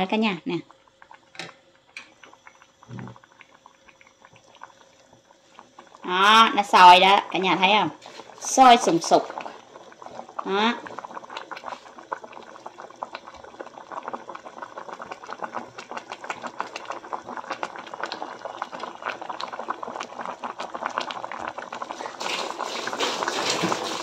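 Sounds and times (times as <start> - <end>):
pot boiling with rapid bubbling: 0.0 - 24.0.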